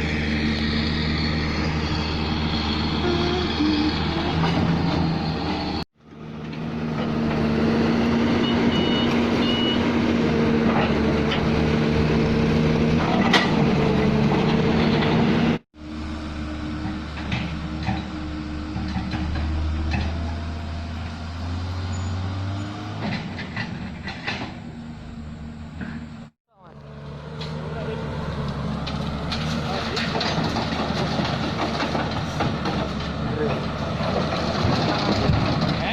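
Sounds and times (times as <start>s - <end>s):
heavy diesel machinery running: 0.0s - 35.9s.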